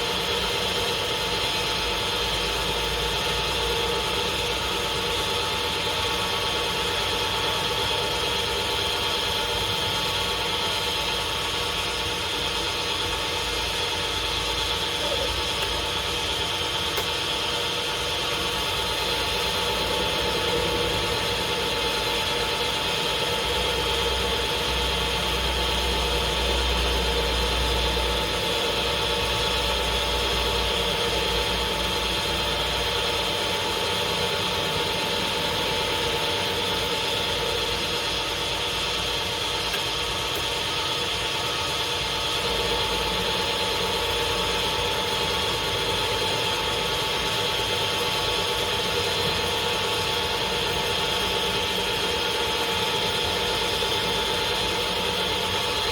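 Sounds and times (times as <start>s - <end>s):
lathe humming: 0.0s - 55.9s.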